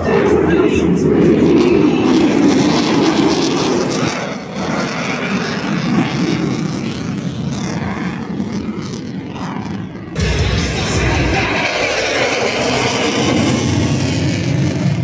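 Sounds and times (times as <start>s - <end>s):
airplane engine drone overhead: 0.0s - 15.0s.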